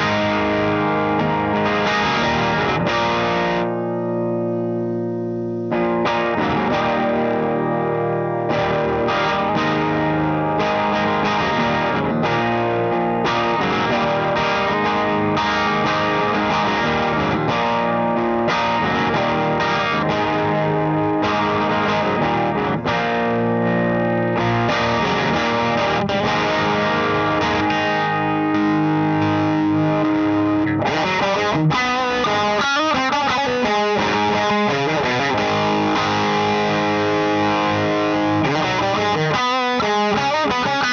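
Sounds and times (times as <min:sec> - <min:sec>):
overdriven electric guitar: 0:00.0 - 0:40.9.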